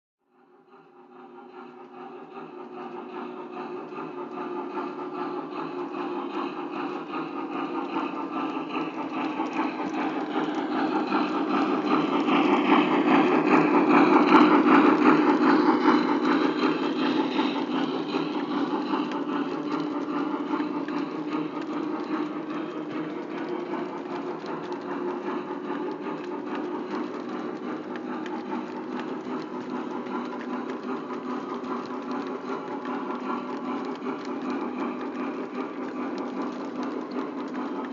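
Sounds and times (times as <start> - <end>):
toy train rumbling and rattling: 0.5 - 37.9
toy train cars clattering: 2.1 - 37.9.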